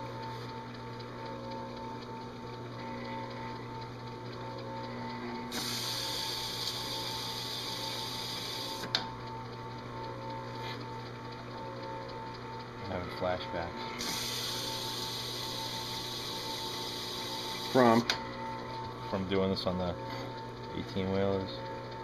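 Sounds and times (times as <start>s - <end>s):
drill press motor humming: 0.0s - 22.0s.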